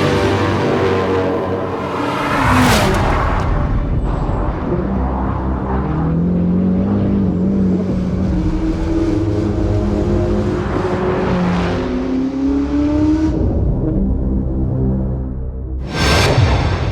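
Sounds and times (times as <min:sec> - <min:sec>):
car engine accelerating hard: 0:00.0 - 0:14.9.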